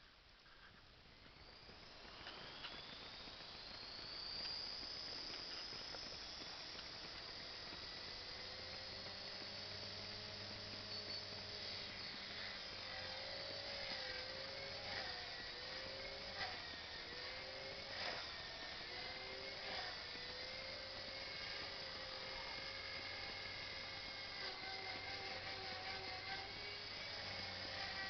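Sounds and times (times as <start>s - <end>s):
model helicopter rotor whine: 0.0s - 28.0s.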